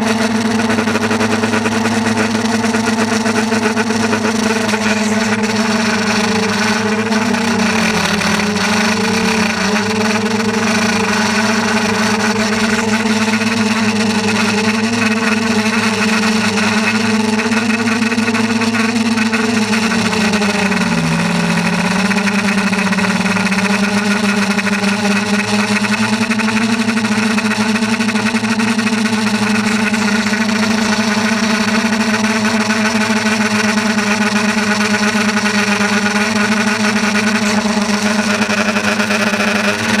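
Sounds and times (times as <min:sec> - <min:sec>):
steady motor hum: 0:00.0 - 0:40.0.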